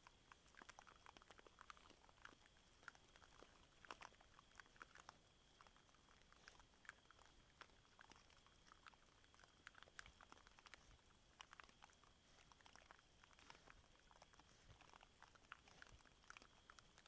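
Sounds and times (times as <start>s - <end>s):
boar chewing and crunching maize: 0.0s - 17.0s.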